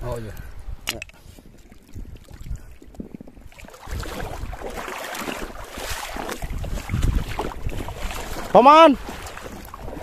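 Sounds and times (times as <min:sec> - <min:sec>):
wind buffeting microphone: 0:00.0 - 0:10.0
seawater sloshing and splashing: 0:01.4 - 0:10.0.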